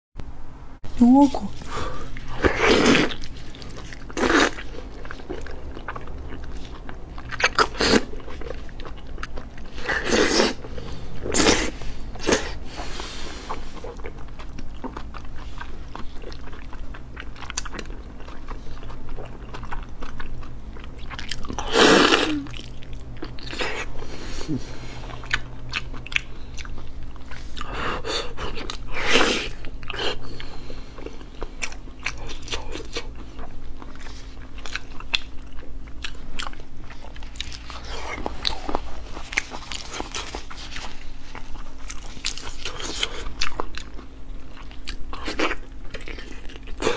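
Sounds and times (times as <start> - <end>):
low steady hum: 0.2 - 46.9
biting and chewing meat: 1.6 - 46.9.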